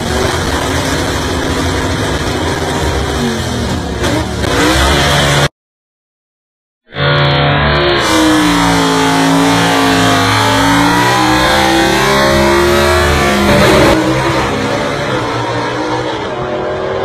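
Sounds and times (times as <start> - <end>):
drag car engine at full throttle: 0.0 - 5.5, 6.9 - 17.0.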